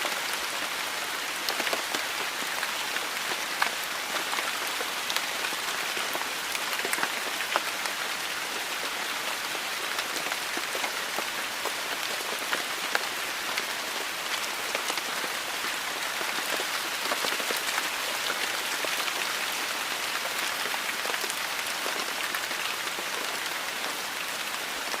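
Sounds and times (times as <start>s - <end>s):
heavy rain falling: 0.0s - 25.0s
raindrops ticking on hard surfaces: 0.2s - 25.0s.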